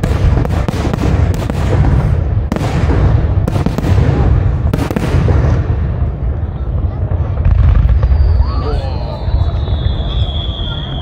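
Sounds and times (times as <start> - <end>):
fireworks booming and crackling: 0.0 - 11.0
sharp firework reports: 0.0 - 11.0.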